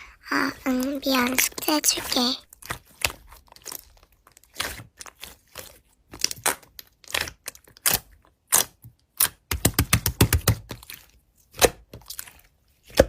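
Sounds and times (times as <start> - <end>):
slime crackling and squishing: 0.0 - 13.0.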